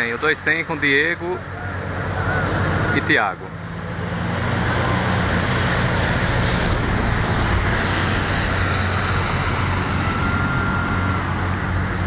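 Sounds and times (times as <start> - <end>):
tyre and traffic noise: 0.0 - 12.0
vehicle engines humming: 0.0 - 12.0.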